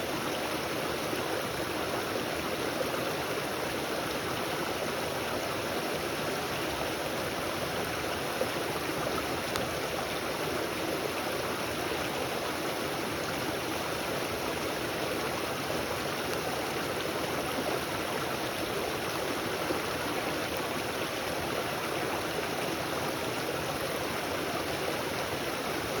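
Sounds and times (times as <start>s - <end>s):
stream rushing: 0.0s - 26.0s.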